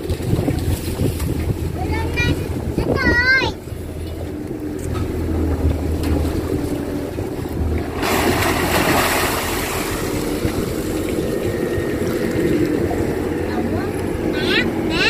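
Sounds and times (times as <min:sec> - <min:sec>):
water and mud splashing: 0:00.0 - 0:15.0
excavator diesel engine running: 0:01.4 - 0:15.0.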